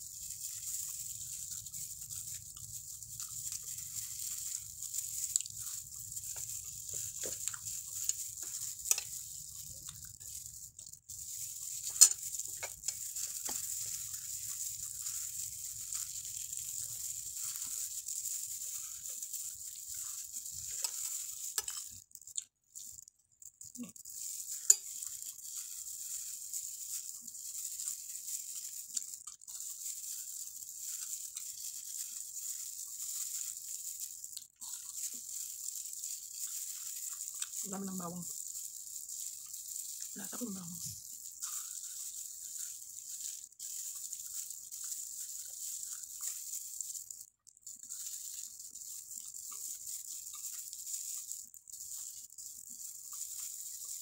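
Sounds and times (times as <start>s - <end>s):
chewing: 0.2s - 54.0s.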